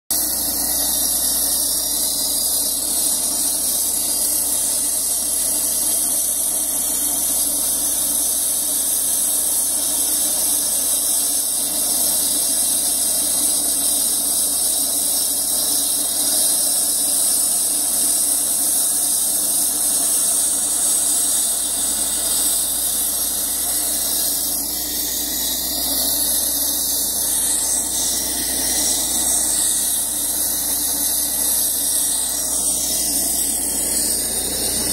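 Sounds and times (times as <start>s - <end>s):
concrete saw engine running: 0.0s - 34.9s
saw blade high whine: 0.1s - 34.9s.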